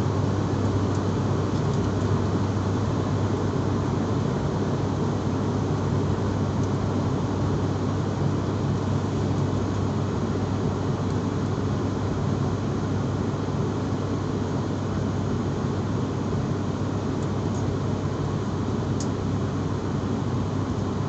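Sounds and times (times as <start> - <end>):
aircraft low drone: 0.0 - 21.0.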